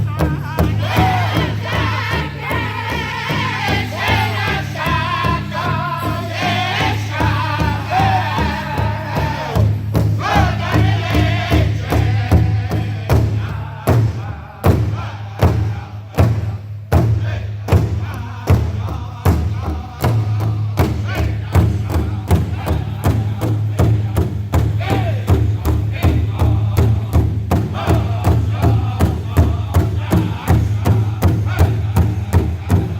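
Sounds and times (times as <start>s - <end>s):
big drum strokes: 0.0s - 32.9s
singers in high unison voices: 0.0s - 32.9s.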